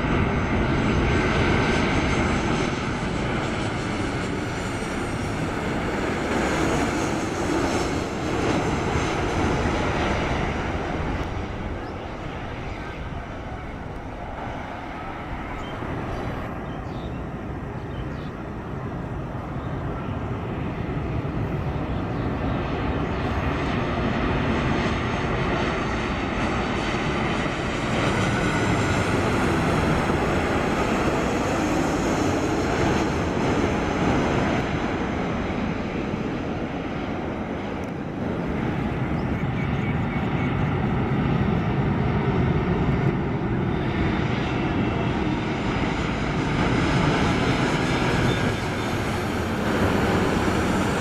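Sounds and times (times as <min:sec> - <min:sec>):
airliner engines roaring: 0:00.0 - 0:51.0
faint high engine whine: 0:00.0 - 0:51.0.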